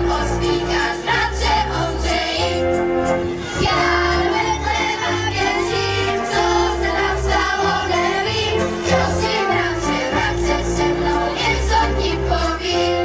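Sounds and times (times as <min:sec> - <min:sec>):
children's choir singing: 0:00.0 - 0:02.8, 0:03.4 - 0:13.0
amplified instrumental accompaniment: 0:00.0 - 0:13.0.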